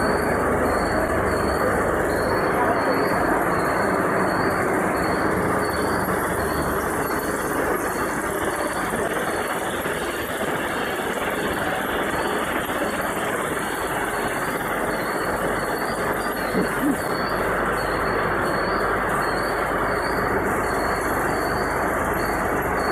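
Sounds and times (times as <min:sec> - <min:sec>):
production line machinery din: 0:00.0 - 0:22.9.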